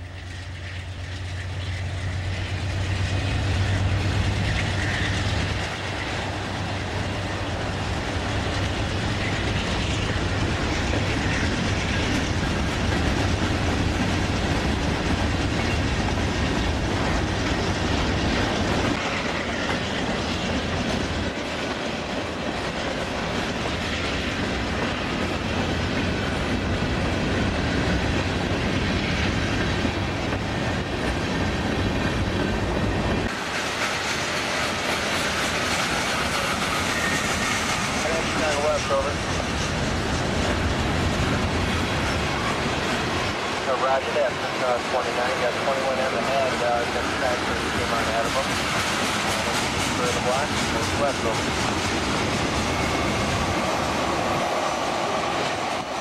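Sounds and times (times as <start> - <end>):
diesel locomotive engine hum: 0.0 - 56.0
train wheels clacking on rails: 0.0 - 56.0.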